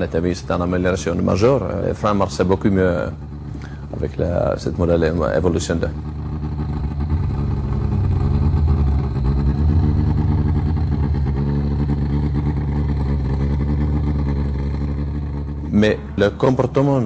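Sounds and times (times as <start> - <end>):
rally car engine running: 0.0 - 17.0.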